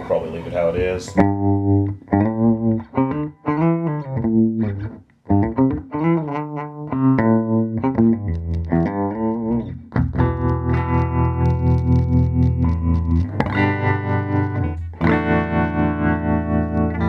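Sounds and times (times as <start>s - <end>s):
electric guitar picked notes: 1.0s - 17.0s.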